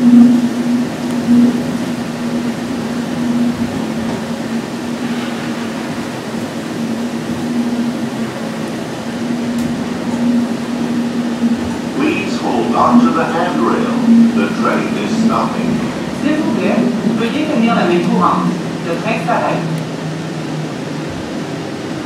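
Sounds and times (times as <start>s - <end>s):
people-mover cabin hum: 0.0s - 22.0s.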